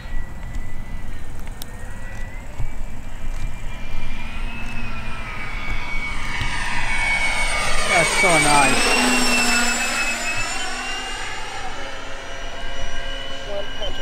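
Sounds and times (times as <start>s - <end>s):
electric ducted fans whining: 0.0s - 14.0s.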